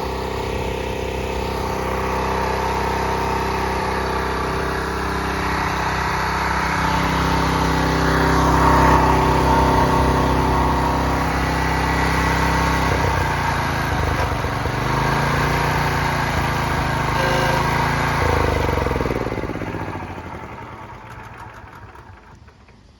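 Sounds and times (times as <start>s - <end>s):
pressure washer engine running: 0.0s - 22.9s.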